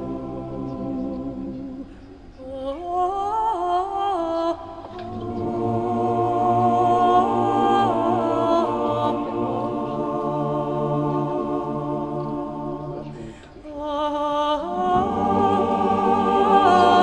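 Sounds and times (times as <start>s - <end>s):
choir-like vocal notes: 0.0s - 17.0s.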